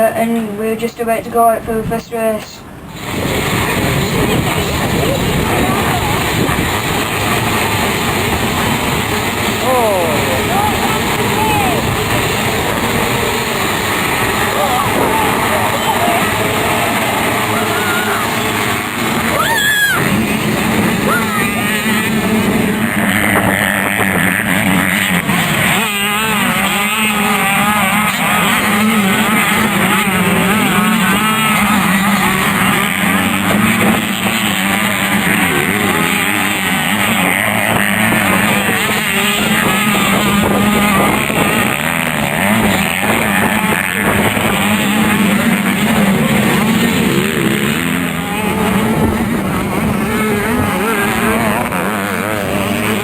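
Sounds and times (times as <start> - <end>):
motocross bikes revving: 0.0 - 53.0.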